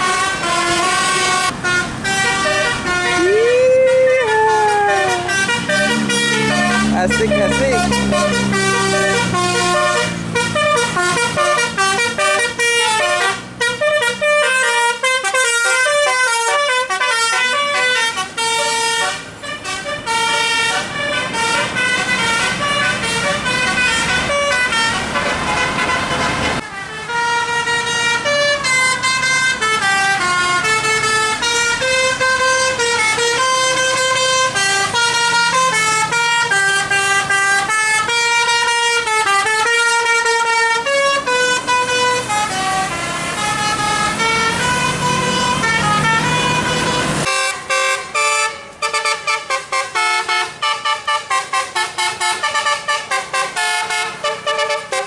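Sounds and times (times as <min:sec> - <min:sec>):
engine and road noise: 0:00.0 - 0:55.0
musical bus horns playing jingles: 0:00.0 - 0:55.0.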